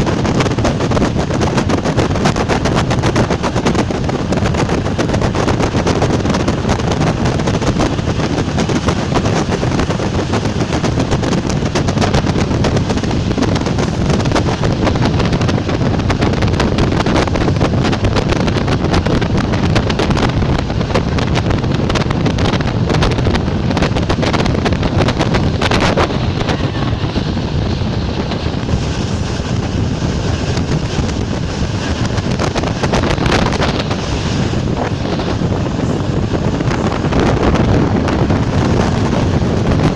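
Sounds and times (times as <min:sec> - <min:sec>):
train wheels rumbling on rail: 0:00.0 - 0:39.9
wind buffeting microphone: 0:00.0 - 0:39.9.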